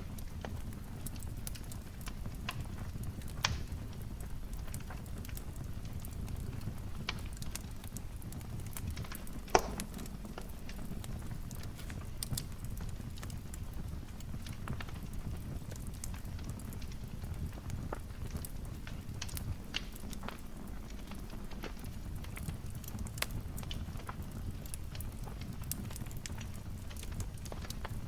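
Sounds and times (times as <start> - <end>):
sharp pops of burning wood: 0.0 - 28.0
wood fire crackling: 0.0 - 28.0.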